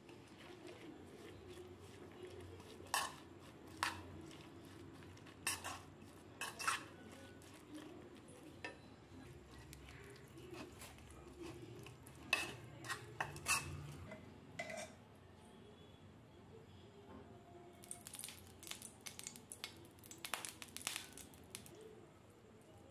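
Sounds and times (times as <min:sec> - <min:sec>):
spoon stirring wet mixture: 0:00.0 - 0:15.0, 0:17.8 - 0:22.0.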